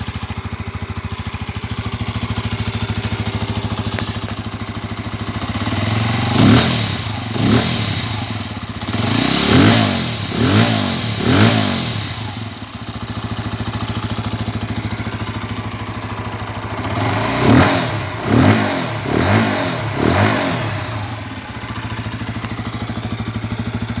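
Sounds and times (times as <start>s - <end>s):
motorcycle engine idling: 0.0s - 24.0s
motorcycle throttle revs: 0.0s - 24.0s.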